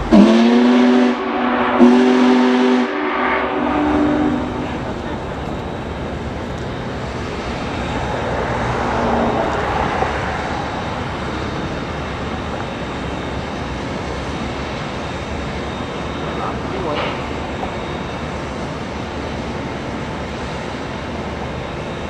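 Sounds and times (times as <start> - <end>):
steam locomotive train rolling by: 0.0 - 22.0.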